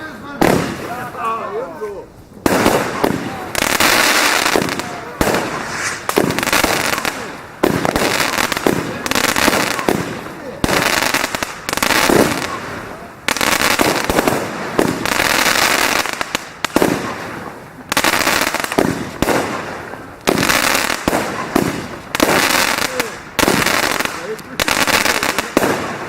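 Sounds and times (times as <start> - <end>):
fireworks bangs: 0.0 - 26.0
fireworks crackling hiss: 0.0 - 26.0.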